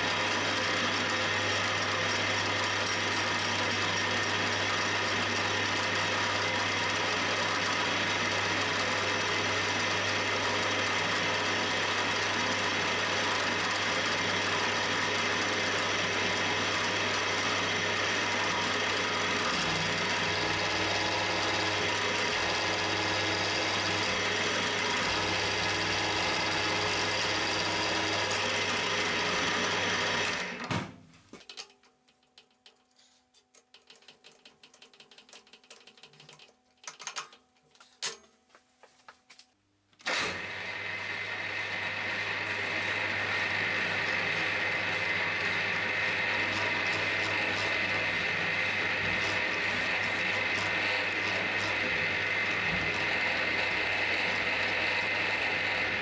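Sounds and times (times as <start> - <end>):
milling machine cutting metal: 0.0 - 30.6, 40.1 - 56.0.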